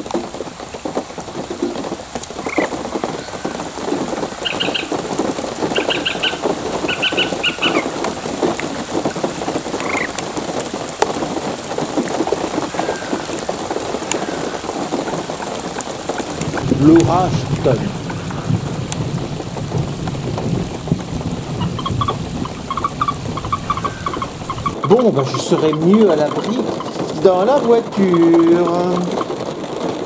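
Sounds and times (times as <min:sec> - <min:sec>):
heavy rain on a pond: 0:00.0 - 0:30.0
bird calls: 0:01.3 - 0:10.4, 0:11.8 - 0:19.5, 0:20.6 - 0:29.4.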